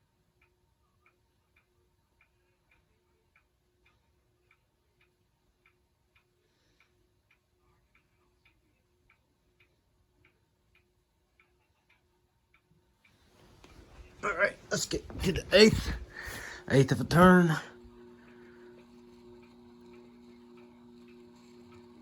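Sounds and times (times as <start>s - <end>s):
faint steady hum: 0.0s - 22.0s
clock ticking: 0.3s - 22.0s.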